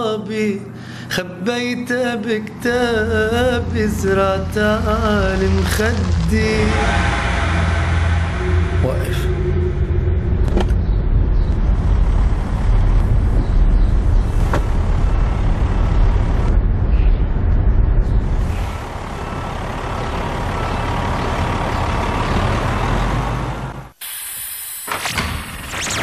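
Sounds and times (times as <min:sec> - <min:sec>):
motor vehicle rumbling: 0:00.9 - 0:24.0.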